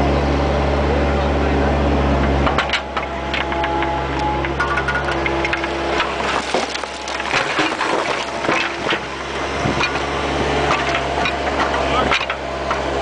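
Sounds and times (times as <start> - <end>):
excavator engine and hydraulics hum: 0.0 - 13.0
excavator bucket scraping dirt: 2.4 - 13.0.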